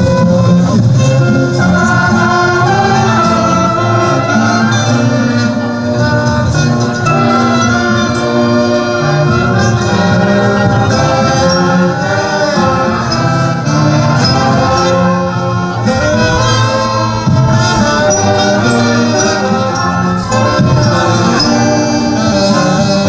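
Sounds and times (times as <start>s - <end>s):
choir singing with instruments: 0.0s - 23.0s.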